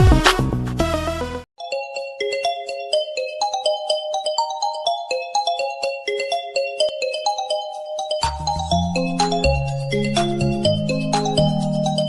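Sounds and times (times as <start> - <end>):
smartphone ringtone melody: 1.6 - 12.0.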